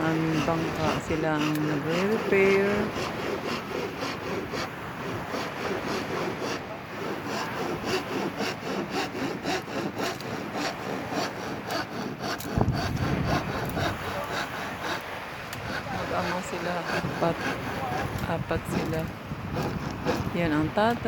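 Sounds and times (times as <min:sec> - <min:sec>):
handsaw cutting wood: 0:00.0 - 0:21.0.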